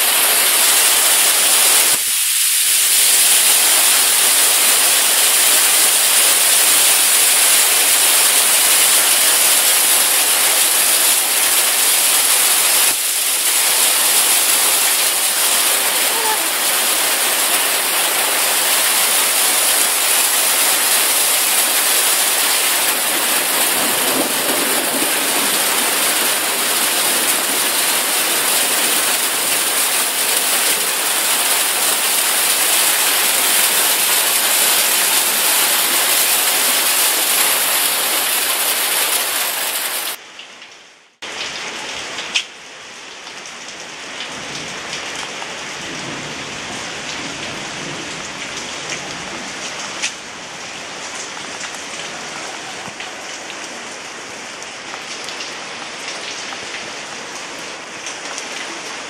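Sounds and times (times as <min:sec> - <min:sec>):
rain and hail on metal roof: 0:00.0 - 0:59.0.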